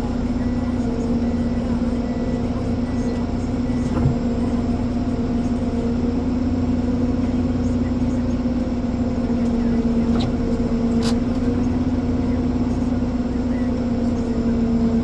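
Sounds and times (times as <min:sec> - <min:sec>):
diesel engine and hydraulics running: 0:00.0 - 0:15.0.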